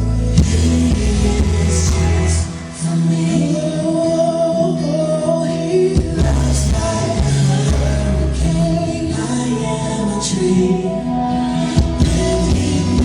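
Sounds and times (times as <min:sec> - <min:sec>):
bass and guitar: 0:00.0 - 0:13.0
singer holding wordless notes: 0:00.0 - 0:13.0.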